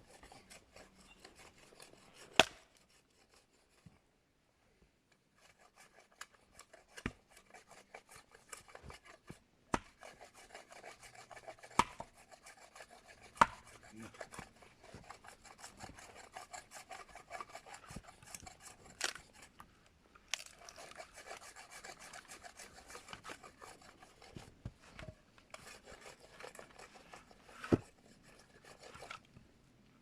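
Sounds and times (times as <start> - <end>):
hand tool scraping wood: 0.0 - 4.0, 5.4 - 19.6, 20.3 - 29.3.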